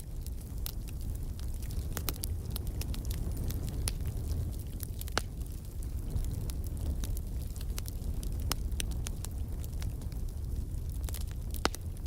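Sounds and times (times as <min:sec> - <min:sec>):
fire crackling and popping: 0:00.0 - 0:12.0
fire rumbling: 0:00.0 - 0:12.0.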